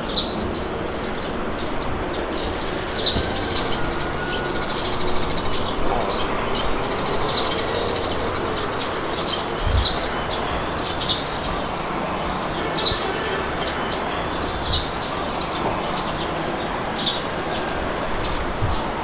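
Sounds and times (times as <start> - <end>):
small birds chirping: 0.0 - 19.0
wind blowing: 0.0 - 19.0.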